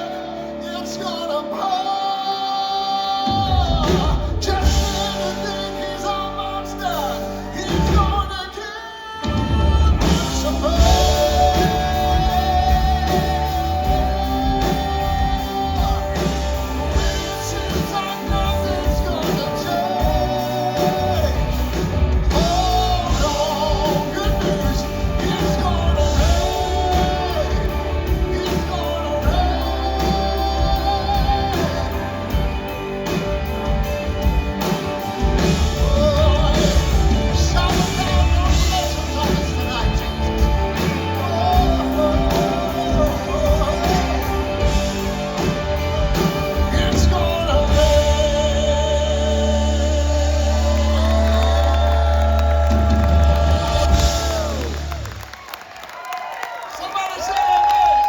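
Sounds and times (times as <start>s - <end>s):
person singing with vibrato: 0.0s - 55.2s
band with heavy bass: 0.0s - 55.6s.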